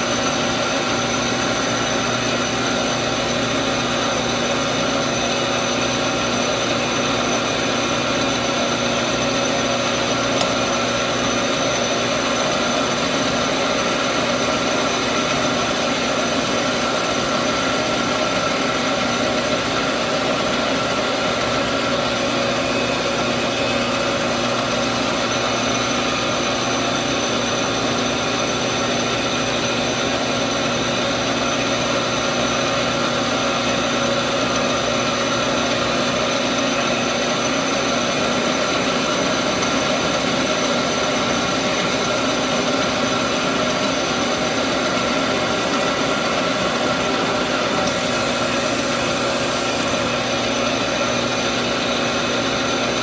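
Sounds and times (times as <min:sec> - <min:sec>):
metal lathe running: 0:00.0 - 0:53.0.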